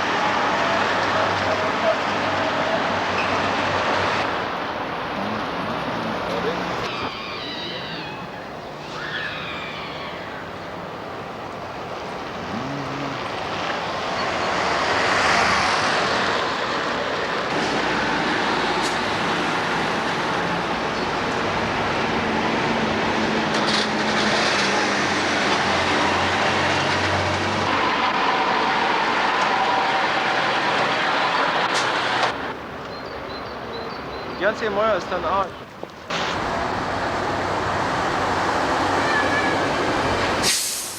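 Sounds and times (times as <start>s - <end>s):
traffic engine and tyre noise: 0.0s - 40.9s.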